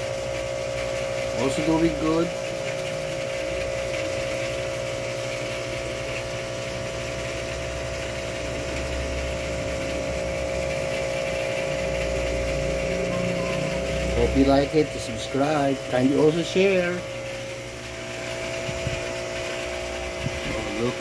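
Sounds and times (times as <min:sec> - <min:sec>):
aquarium filter pump humming: 0:00.0 - 0:21.0.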